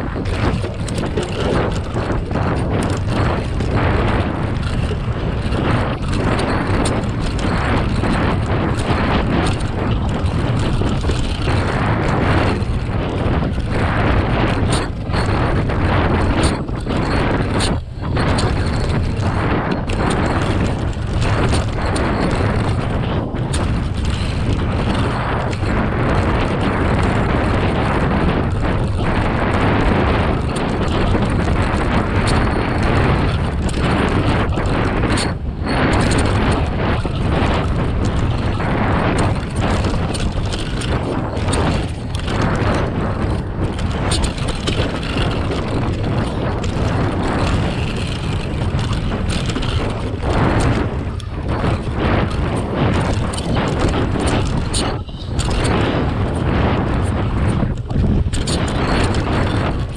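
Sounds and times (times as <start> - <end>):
bike knocks and rattles: 0.0 - 59.9
wind rushing over microphone: 0.0 - 59.9
tyres rolling over gravel: 0.1 - 59.9.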